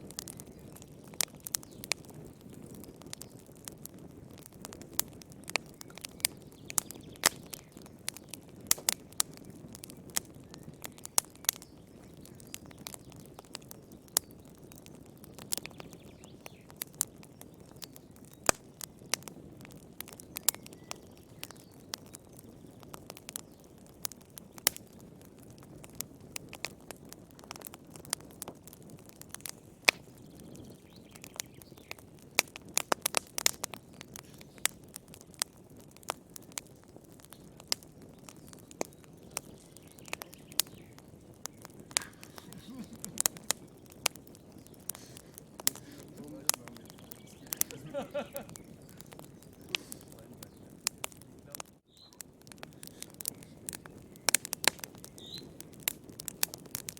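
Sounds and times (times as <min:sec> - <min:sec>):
fireplace fire crackling: 0:00.0 - 0:56.9.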